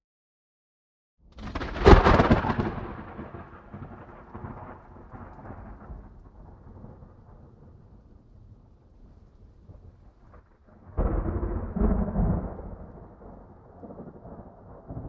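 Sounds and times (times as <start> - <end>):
thunderclap: 1.3 - 15.0.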